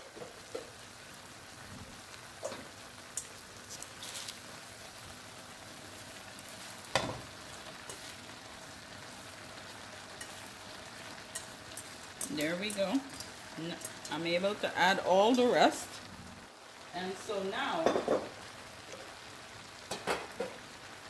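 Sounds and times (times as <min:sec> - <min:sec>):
greens sizzling in skillet: 0:00.0 - 0:21.0.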